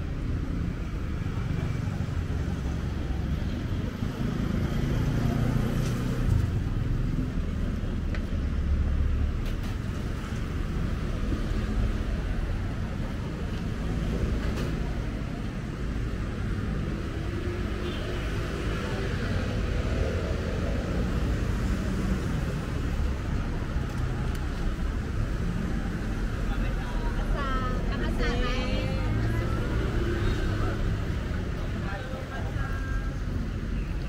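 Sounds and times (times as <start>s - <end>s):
rumble of passing cars: 0.0s - 34.0s.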